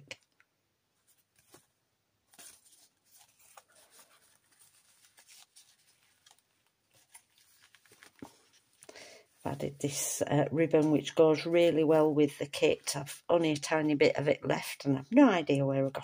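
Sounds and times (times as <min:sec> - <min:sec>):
paper and fabric rustling: 0:01.0 - 0:14.1.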